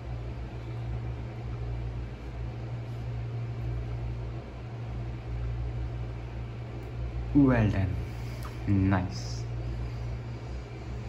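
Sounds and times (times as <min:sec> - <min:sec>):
low machine hum with hiss: 0:00.0 - 0:11.0.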